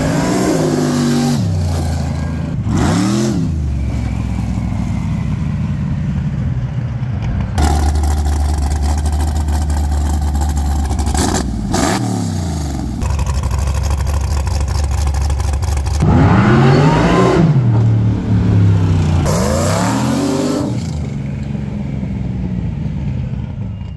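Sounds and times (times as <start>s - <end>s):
vee eight engine idling and revving: 0.0s - 23.9s.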